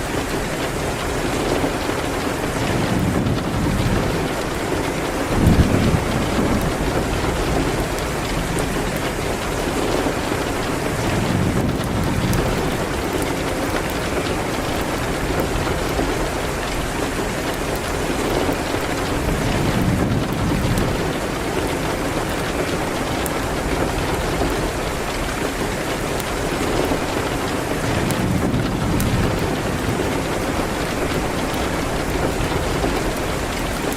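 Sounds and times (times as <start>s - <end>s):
rain hitting a window: 0.0s - 33.9s
wood fire crackling: 0.0s - 33.9s.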